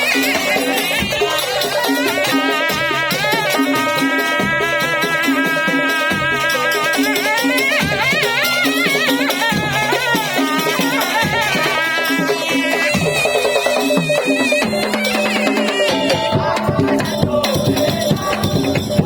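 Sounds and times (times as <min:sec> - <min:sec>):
pitched percussion pattern: 0:00.0 - 0:19.0.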